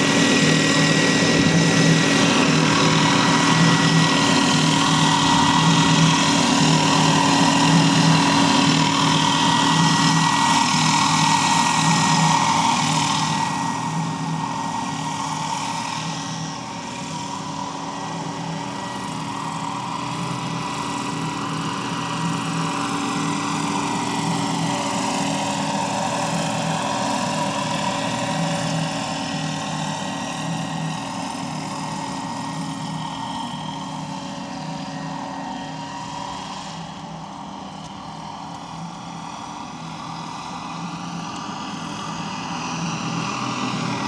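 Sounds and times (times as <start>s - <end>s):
model helicopter whine and rotor beat: 0.0s - 44.0s.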